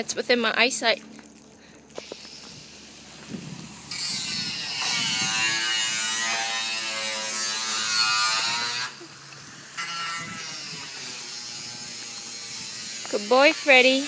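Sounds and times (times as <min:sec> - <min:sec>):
mechanical buzz: 0:02.0 - 0:14.0.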